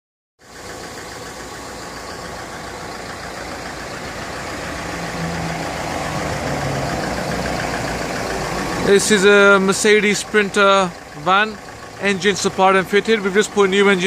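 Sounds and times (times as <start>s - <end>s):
diesel engine idling: 0.4s - 14.0s.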